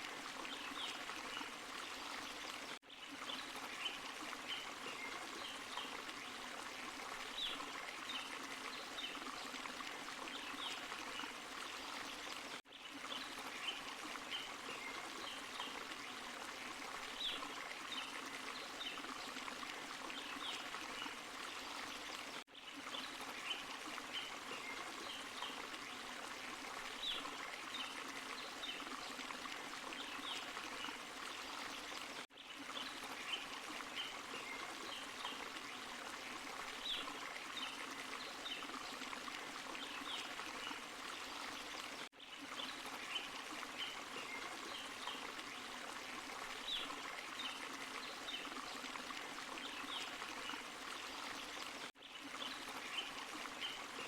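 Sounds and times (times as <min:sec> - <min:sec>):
stream and small waterfall: 0:00.0 - 0:54.0
water plinks and gurgles: 0:00.0 - 0:54.0.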